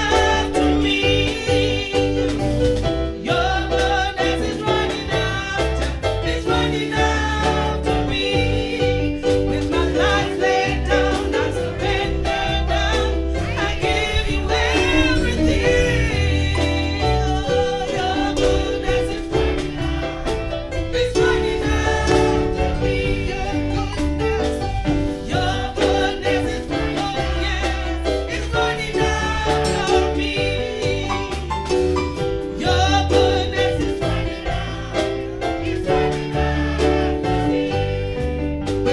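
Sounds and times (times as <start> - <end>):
gospel band music: 0.0 - 38.9
wavering lead voice singing: 0.0 - 38.9.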